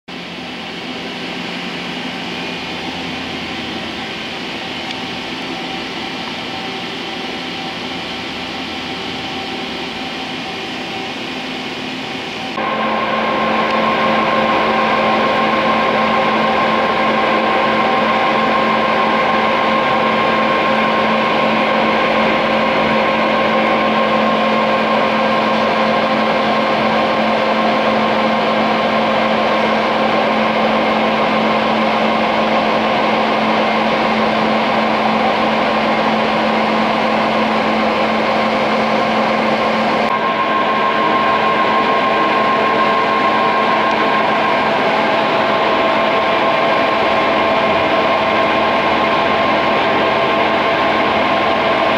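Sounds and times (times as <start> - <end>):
lathe mechanical hum: 0.1 - 51.9.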